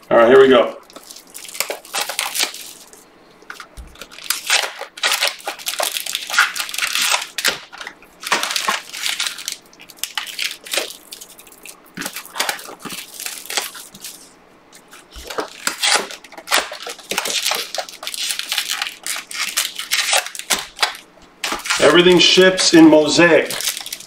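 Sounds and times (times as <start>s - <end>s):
crinkling and tearing cellophane: 0.4s - 24.0s.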